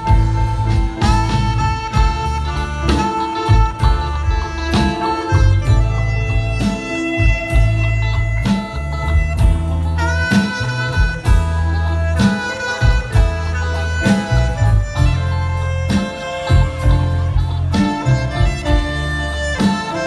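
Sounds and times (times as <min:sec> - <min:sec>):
drum kit steady beat: 0:00.0 - 0:20.0
electronic keyboard: 0:00.0 - 0:20.0
saxophone melody: 0:00.0 - 0:20.0.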